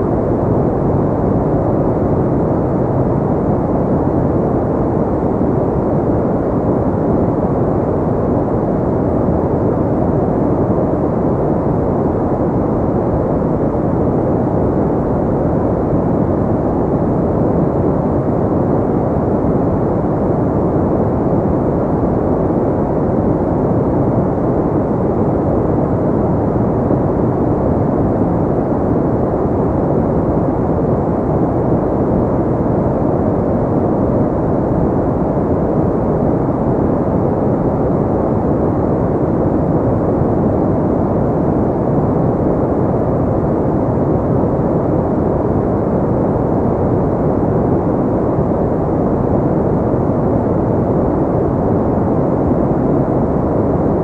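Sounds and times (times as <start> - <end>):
muffled pink noise hiss: 0.0 - 54.0.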